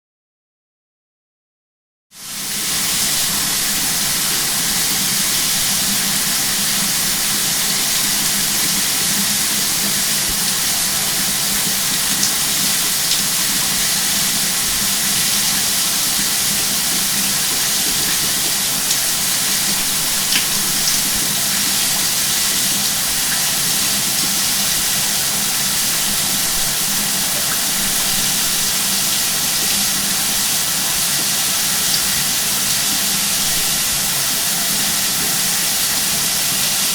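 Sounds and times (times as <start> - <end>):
shower water spraying: 2.2 - 36.9.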